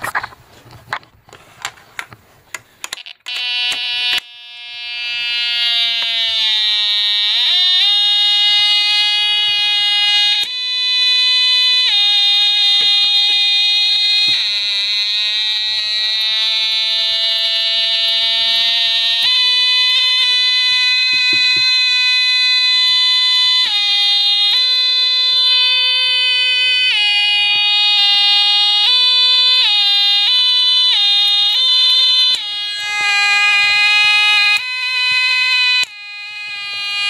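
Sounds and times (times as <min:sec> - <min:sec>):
electronic buzzer sliding pitch: 0:03.0 - 0:37.0.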